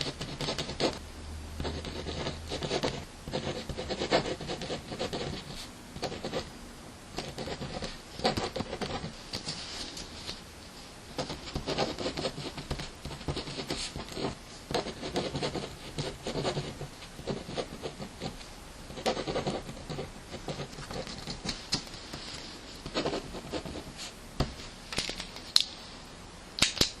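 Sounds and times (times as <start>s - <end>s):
pen scratching on paper: 0.0s - 1.0s, 1.6s - 6.5s, 7.2s - 10.0s, 11.2s - 24.1s.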